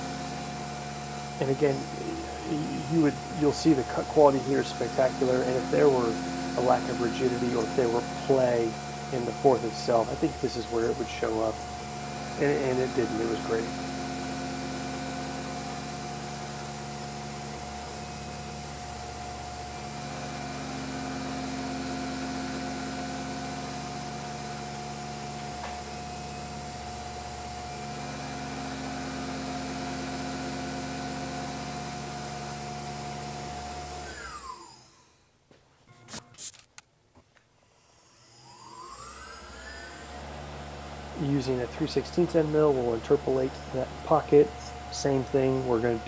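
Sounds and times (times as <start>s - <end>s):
mill spindle whine cutting metal: 0.0s - 35.2s, 37.5s - 46.0s
spindle winding down: 0.0s - 35.2s, 37.5s - 46.0s.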